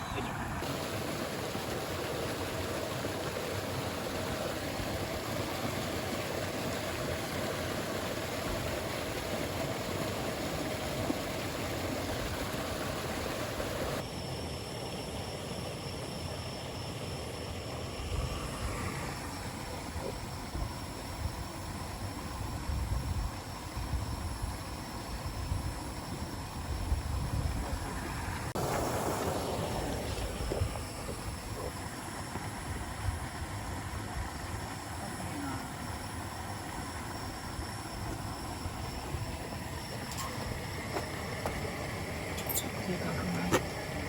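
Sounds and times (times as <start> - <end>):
thin steady high tone: 0.0 - 28.6, 29.2 - 44.0.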